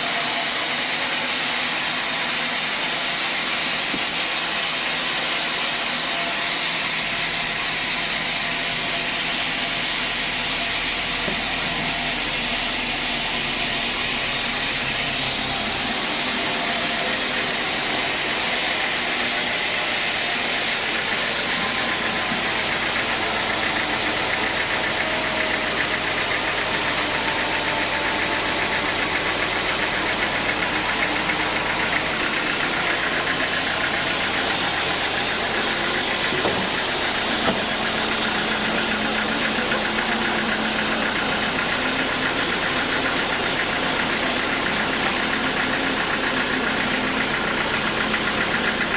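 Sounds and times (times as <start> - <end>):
sawmill machinery running: 0.0 - 48.9.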